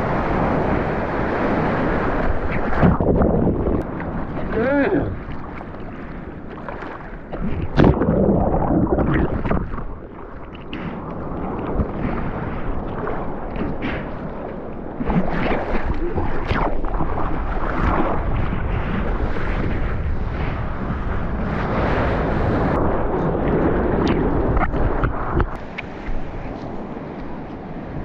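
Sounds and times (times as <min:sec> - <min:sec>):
surf and rushing water: 0:00.0 - 0:28.0
wind buffeting microphone: 0:00.0 - 0:28.0.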